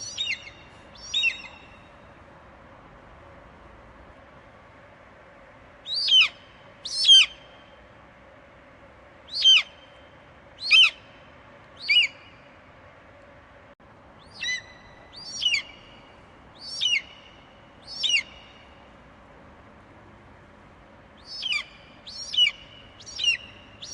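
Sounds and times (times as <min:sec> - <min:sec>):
faint background hiss: 0:00.0 - 0:23.9.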